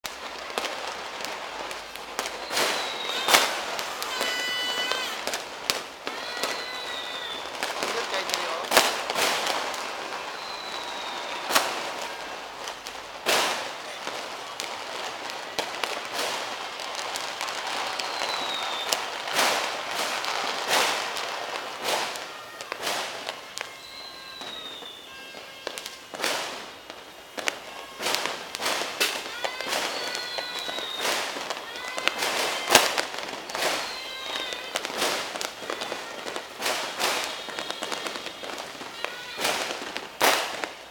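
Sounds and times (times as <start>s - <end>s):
firework bangs and pops: 0.0s - 40.9s
whistling fireworks: 0.0s - 40.9s.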